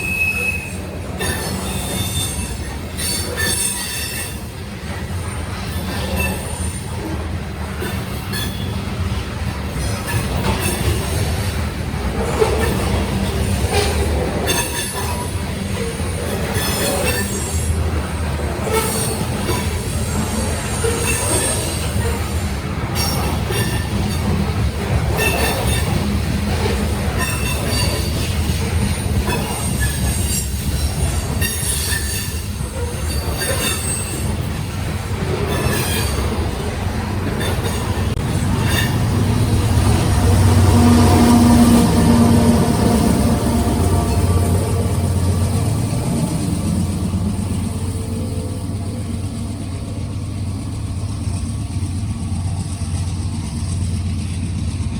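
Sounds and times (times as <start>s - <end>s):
freight cars rolling past: 0.0s - 54.9s
wheels squealing: 0.0s - 54.9s.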